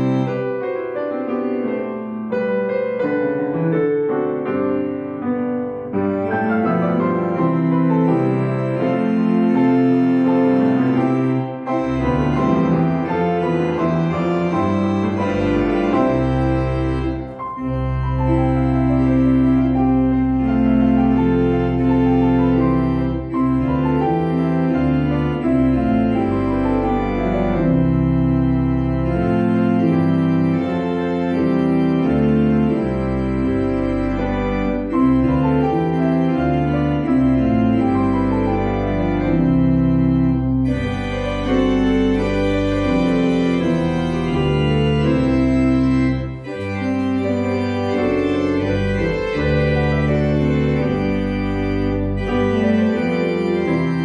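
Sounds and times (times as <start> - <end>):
church organ chords: 0.0 - 3.8, 5.7 - 54.0
grand piano: 0.0 - 54.0.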